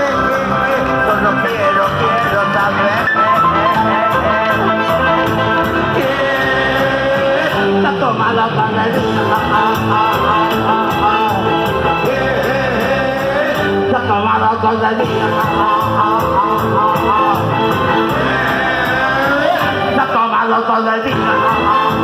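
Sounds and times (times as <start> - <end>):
song with guitar and singing: 0.0 - 22.0.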